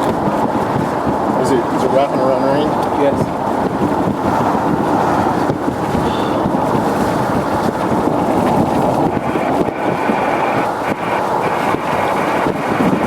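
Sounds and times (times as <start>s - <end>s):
car road and wind noise: 0.0s - 13.0s
wind buffeting microphone: 0.0s - 13.0s.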